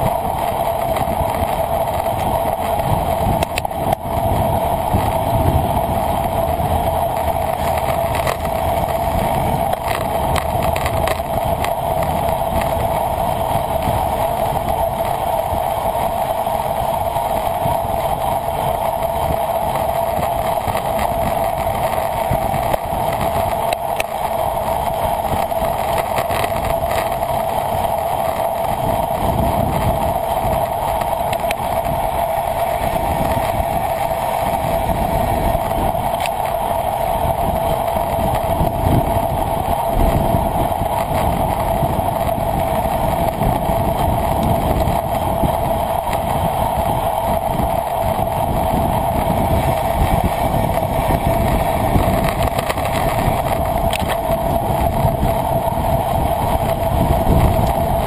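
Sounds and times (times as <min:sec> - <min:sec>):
mid-pitched hum: 0:00.0 - 0:58.0
road noise: 0:00.0 - 0:58.0
wind rushing: 0:00.0 - 0:58.0.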